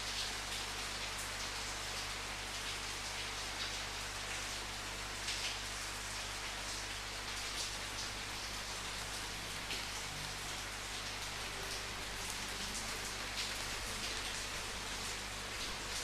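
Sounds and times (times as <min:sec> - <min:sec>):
steady rainfall hiss: 0:00.0 - 0:16.0.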